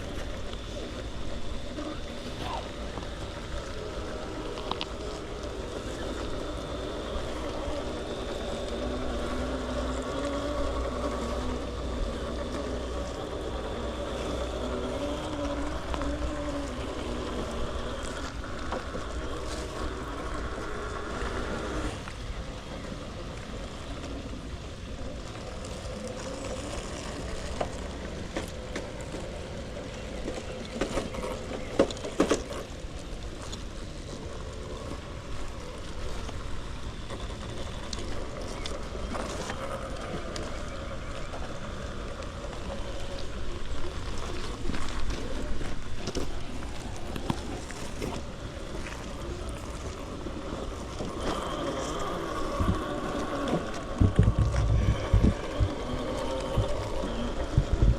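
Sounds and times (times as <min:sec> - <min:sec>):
toy car electric motor whining: 0:00.0 - 0:22.2, 0:22.9 - 0:57.9.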